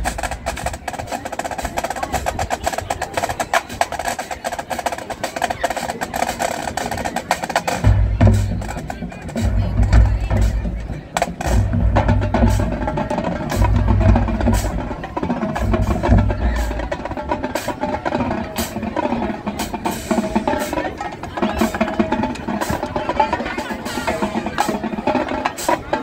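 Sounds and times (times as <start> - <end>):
snare and tenor drums: 0.0 - 26.0.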